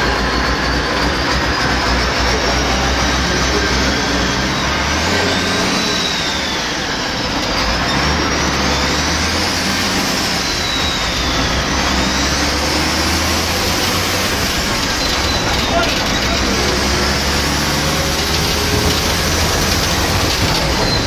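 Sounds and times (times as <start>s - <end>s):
bus diesel engine drone: 0.0s - 21.0s
engine whine: 0.0s - 21.0s.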